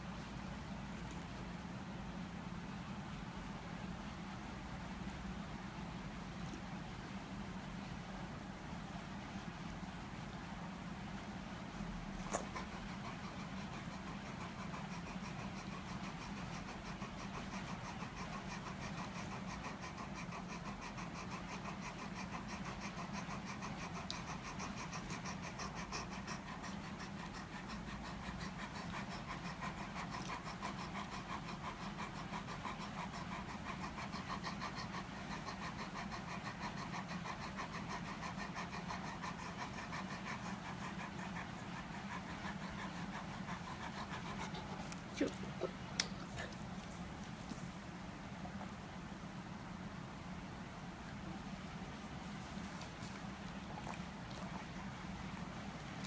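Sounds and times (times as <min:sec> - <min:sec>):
dog panting: 0:09.7 - 0:56.0.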